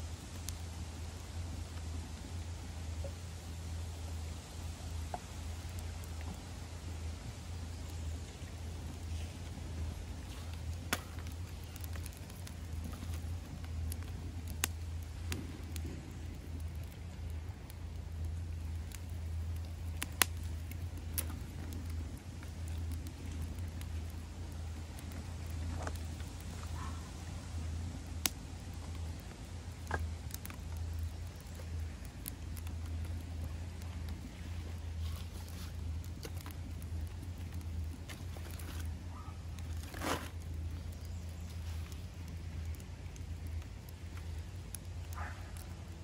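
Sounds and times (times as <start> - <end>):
fire popping: 0.0 - 46.0
steady low rumble: 0.0 - 46.0
wood fire crackling: 0.0 - 46.0.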